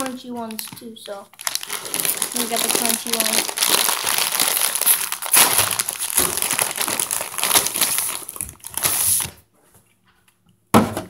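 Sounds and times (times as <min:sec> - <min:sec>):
plastic snack bag crinkling: 0:00.0 - 0:09.4.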